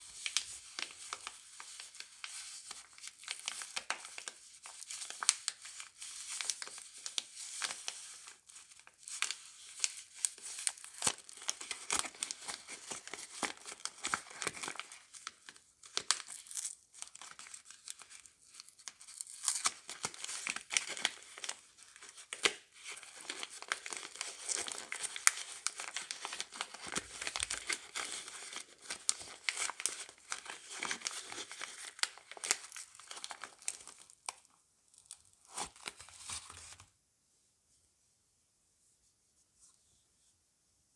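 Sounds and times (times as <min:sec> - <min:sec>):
soap wrappers crinkling and tearing: 0:00.0 - 0:36.8.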